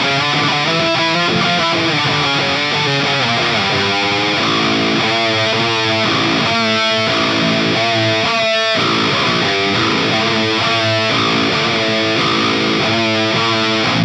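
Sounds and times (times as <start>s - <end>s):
distorted electric guitar chords: 0.0s - 14.0s.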